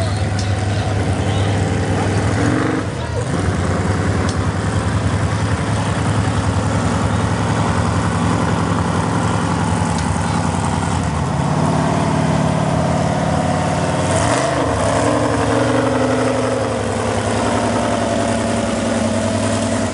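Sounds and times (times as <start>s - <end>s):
truck engine running at low revs: 0.0s - 19.9s.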